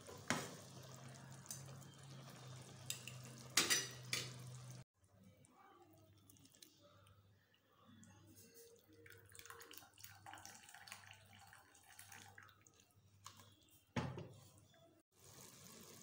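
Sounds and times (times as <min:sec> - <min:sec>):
gravy pouring and dripping: 0:00.3 - 0:13.5.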